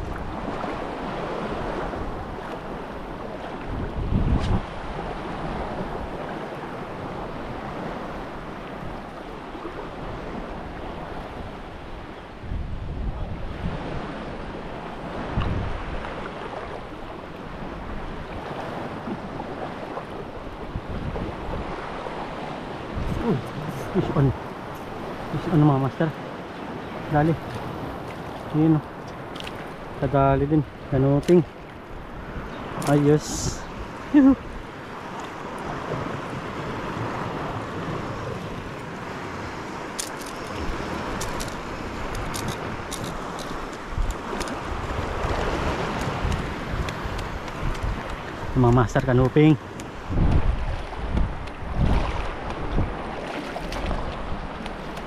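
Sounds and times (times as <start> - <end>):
small waves washing on shore: 0.0 - 55.0
wind buffeting microphone: 0.0 - 55.0.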